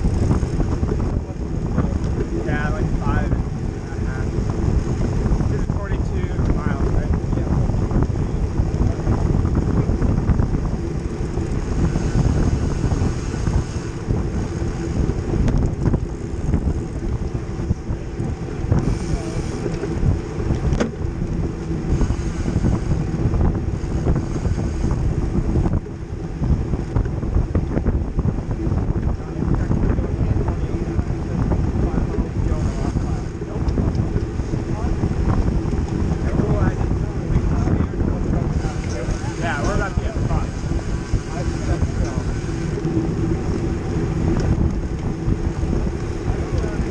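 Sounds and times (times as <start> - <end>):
tyres rolling on asphalt: 0.0 - 46.9
wind buffeting microphone: 0.0 - 46.9.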